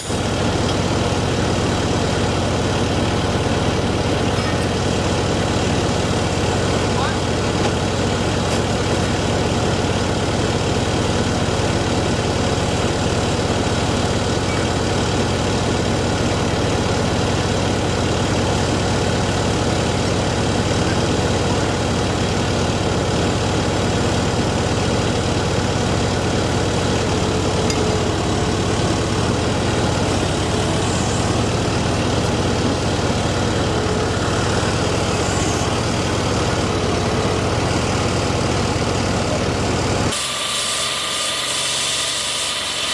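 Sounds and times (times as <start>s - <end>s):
heavy engine idling: 0.0s - 42.9s.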